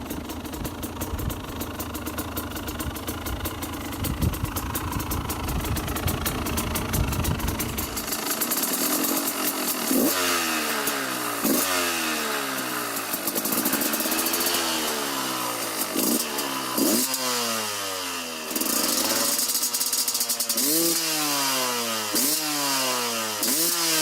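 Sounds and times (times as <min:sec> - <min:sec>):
two-stroke motorcycle engine revving: 0:00.0 - 0:24.0.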